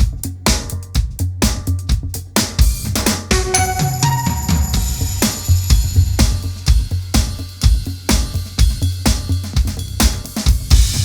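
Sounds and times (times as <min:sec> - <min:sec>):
electronic drum groove: 0:00.0 - 0:11.0
kick drum four-on-the-floor: 0:00.0 - 0:11.0.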